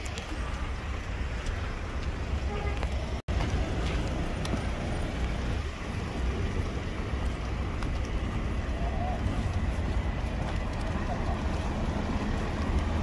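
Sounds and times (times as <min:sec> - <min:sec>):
rumble of passing cars: 0:00.0 - 0:13.0.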